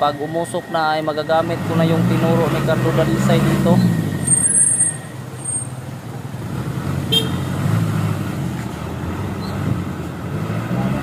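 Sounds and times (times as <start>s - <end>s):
diesel truck engine pulling away: 0.0s - 11.0s.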